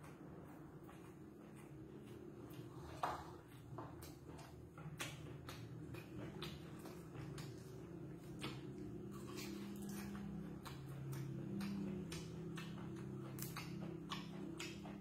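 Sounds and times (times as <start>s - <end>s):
mouth chewing crisp food: 0.0s - 15.0s
steady low hum: 0.0s - 15.0s.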